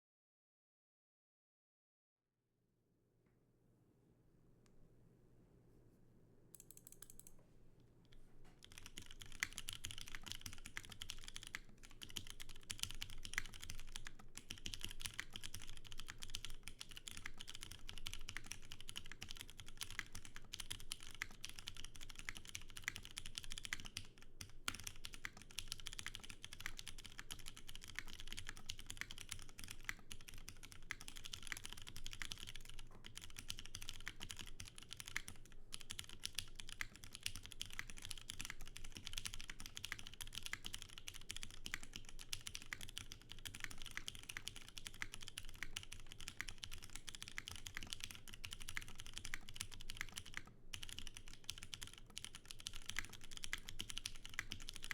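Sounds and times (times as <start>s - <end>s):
typing on mechanical keyboard: 6.6s - 7.4s, 8.6s - 54.9s.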